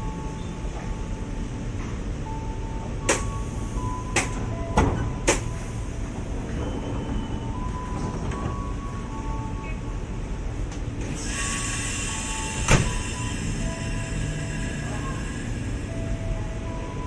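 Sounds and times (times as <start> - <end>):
low train hum: 0.0 - 17.0.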